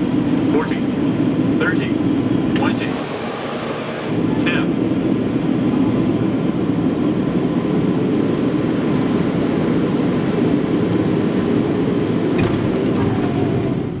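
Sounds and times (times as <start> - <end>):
plane engine and airflow in cabin: 0.0 - 14.0.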